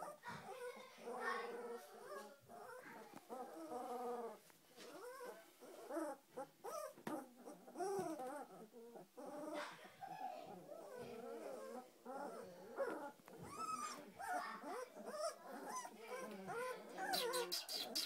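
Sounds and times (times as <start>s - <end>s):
puppies whimpering and squeaking: 0.0s - 18.0s.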